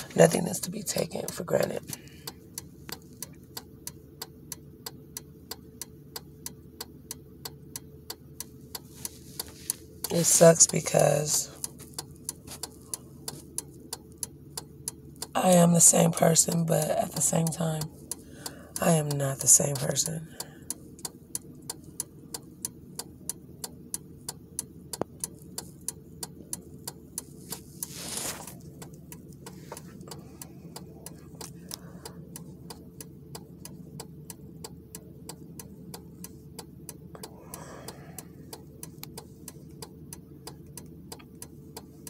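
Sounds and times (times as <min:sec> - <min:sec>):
low steady hum: 0:00.0 - 0:42.0
regular ticking: 0:00.0 - 0:42.0.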